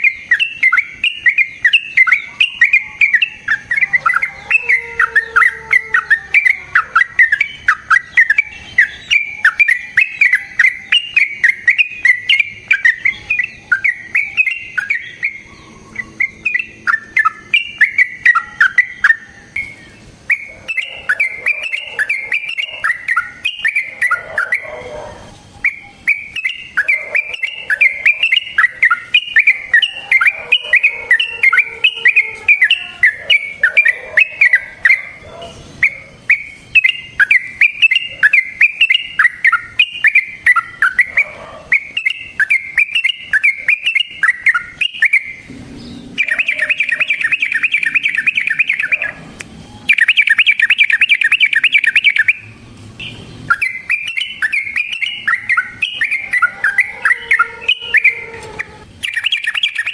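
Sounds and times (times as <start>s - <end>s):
bird singing chattering notes: 0.0s - 59.9s.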